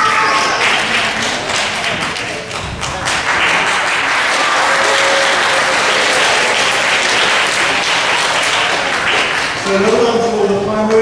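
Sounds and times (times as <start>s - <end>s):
audience applauding: 0.1s - 10.4s.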